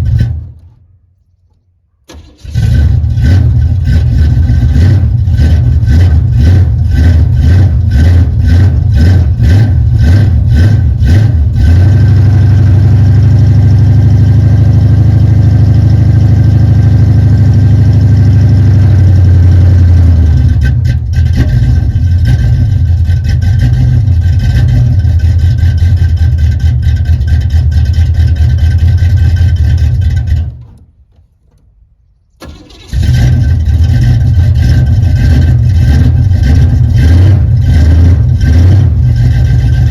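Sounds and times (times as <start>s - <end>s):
engine running roughly: 0.0s - 0.9s, 2.1s - 31.6s, 32.4s - 39.9s.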